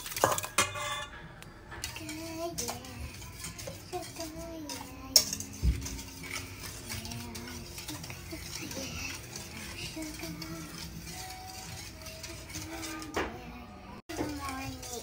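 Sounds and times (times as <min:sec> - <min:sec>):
whisk clinking in a metal bowl: 0:00.0 - 0:01.1, 0:01.8 - 0:15.0.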